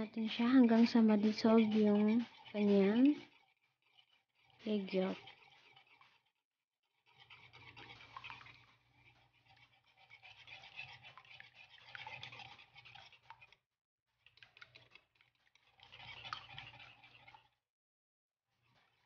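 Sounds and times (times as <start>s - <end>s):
whisk beating eggs in bowl: 0.0s - 6.3s, 7.0s - 13.6s, 14.2s - 17.6s.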